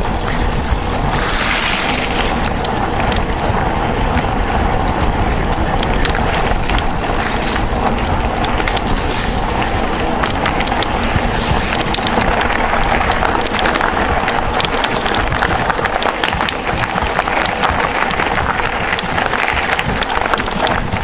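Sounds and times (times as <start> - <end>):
bike rattling: 0.0 - 21.0
tyres crunching on gravel: 0.0 - 21.0
wind on microphone: 0.0 - 21.0.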